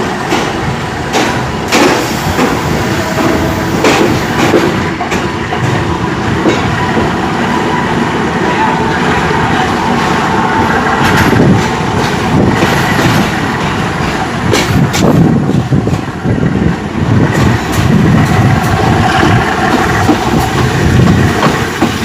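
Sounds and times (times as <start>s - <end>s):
clicks and knocks of train wheels: 0.0s - 7.2s, 9.1s - 22.0s
train wheels rumbling on rails: 0.0s - 22.0s.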